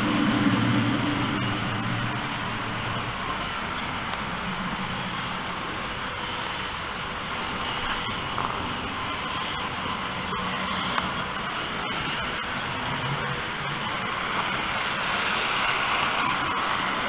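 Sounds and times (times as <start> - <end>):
model train motors whirring: 0.0 - 17.0.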